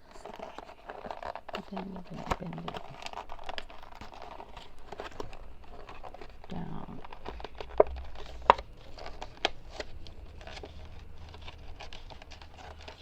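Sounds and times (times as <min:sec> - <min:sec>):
cardboard crackling and clicking: 0:00.0 - 0:13.0.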